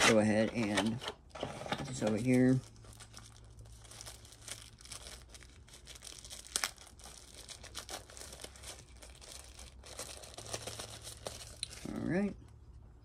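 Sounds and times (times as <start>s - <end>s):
packaging crinkling and rustling: 0.0s - 12.6s.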